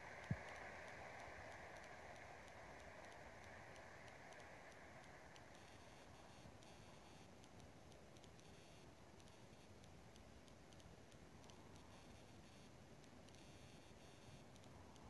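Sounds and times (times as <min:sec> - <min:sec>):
faint clicks: 0:00.0 - 0:15.0.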